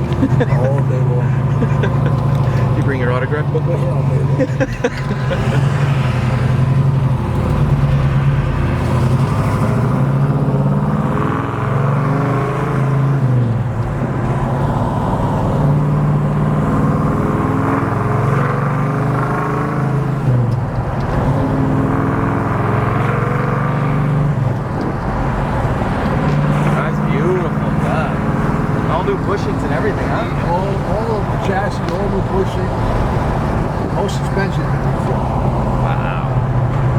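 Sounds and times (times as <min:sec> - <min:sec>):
car engine running while driving: 0:00.0 - 0:36.9.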